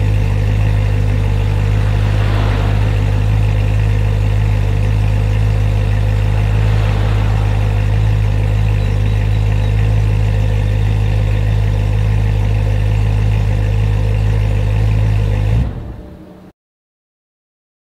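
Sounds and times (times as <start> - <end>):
car engine idling: 0.0 - 16.5.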